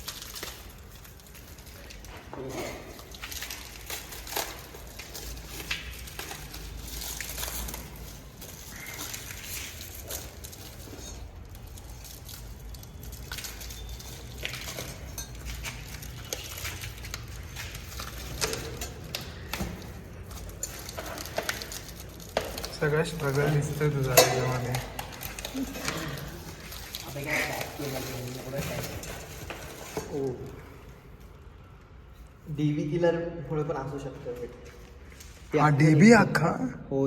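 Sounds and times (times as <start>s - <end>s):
rustling packaging: 0.0s - 32.6s.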